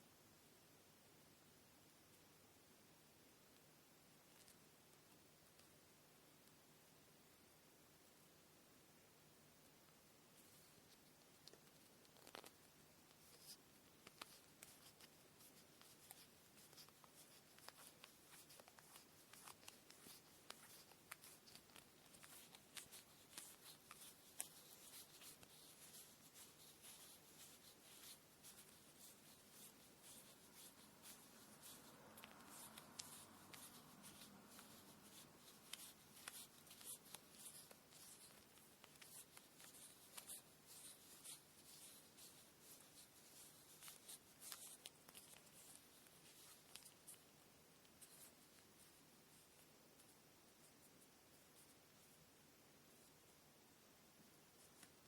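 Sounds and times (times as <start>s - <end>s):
faint thread rustling: 9.6s - 55.0s.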